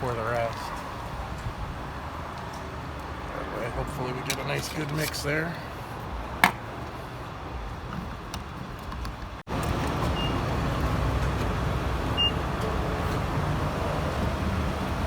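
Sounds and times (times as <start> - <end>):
low rumble of traffic and machinery: 0.0 - 15.0.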